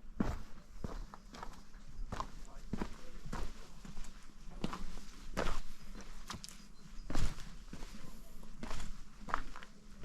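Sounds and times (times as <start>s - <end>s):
footsteps on stony trail: 0.0s - 10.0s.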